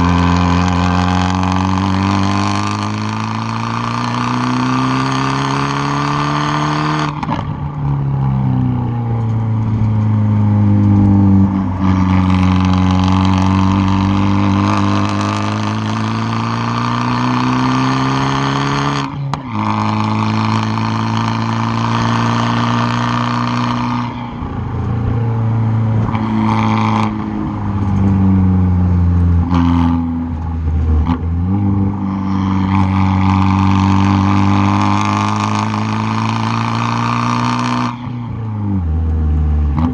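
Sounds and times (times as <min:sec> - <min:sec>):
car engine revving hard: 0:00.0 - 0:07.6, 0:10.9 - 0:38.9.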